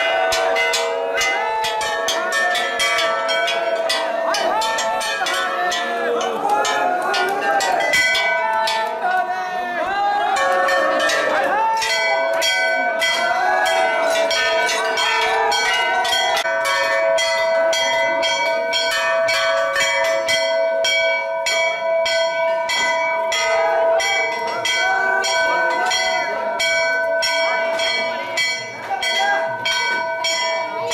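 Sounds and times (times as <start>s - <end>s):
brass temple bells ringing: 0.0s - 9.3s, 9.9s - 30.9s.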